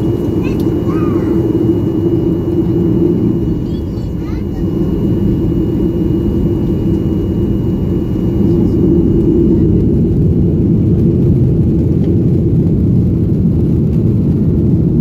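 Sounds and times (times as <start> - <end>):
jet engine rumble and roar: 0.0 - 15.0.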